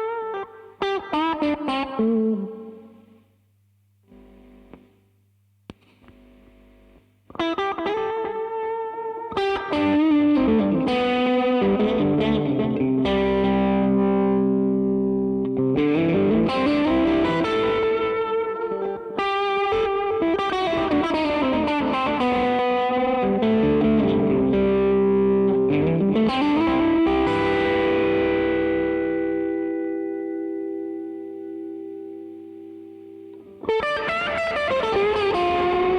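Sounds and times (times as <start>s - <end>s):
distorted electric guitar chords: 0.0s - 3.2s, 4.0s - 35.9s.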